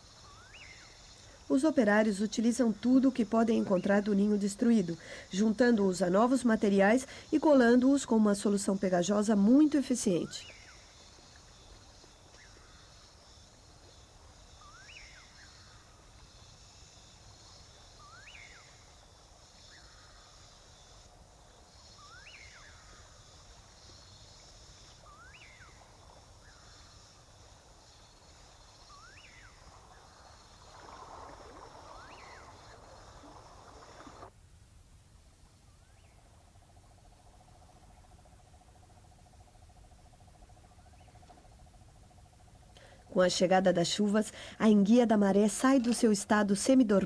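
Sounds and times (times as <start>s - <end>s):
high insect chorus: 0.0s - 34.4s, 35.0s - 47.0s.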